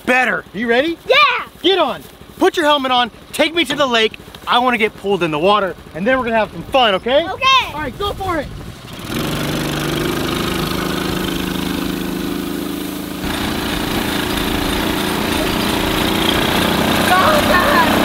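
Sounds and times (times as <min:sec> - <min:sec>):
small tractor engine running: 0:00.1 - 0:18.0.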